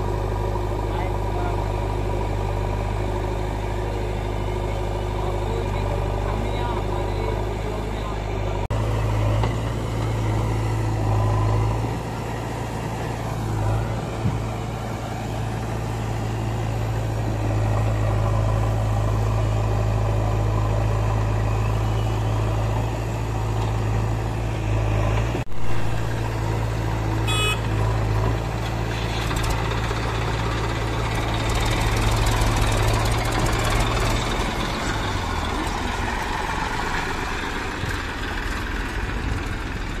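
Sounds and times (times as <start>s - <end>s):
diesel engines humming: 0.0s - 40.0s.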